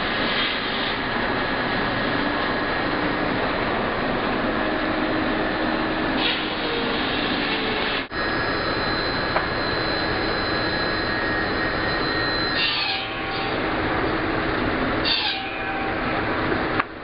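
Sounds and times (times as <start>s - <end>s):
sawmill machinery din: 0.0s - 16.8s
constant high whine: 0.0s - 17.0s.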